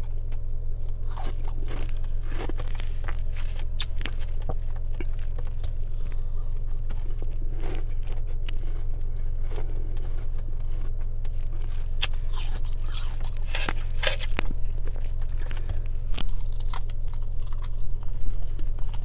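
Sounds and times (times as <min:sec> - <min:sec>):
frost crunching when chewed: 0:00.0 - 0:19.0
low car hum: 0:00.0 - 0:19.0.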